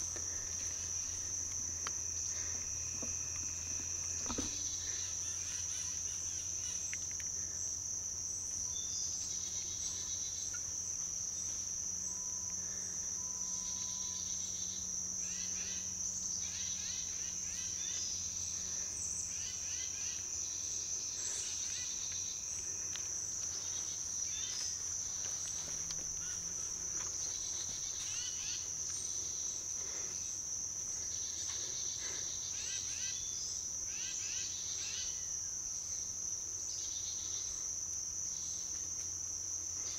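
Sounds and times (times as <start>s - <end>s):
crickets and insects trilling: 0.0s - 39.9s
intermittent insect calls: 0.0s - 39.9s.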